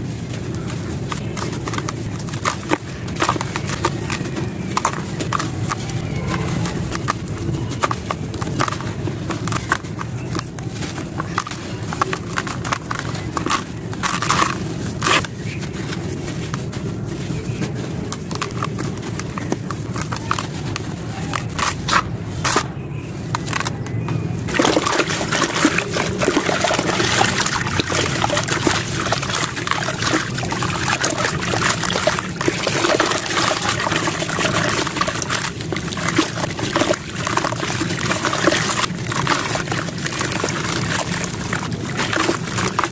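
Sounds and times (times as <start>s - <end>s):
wet sand-cement crunching: 0.0s - 42.9s.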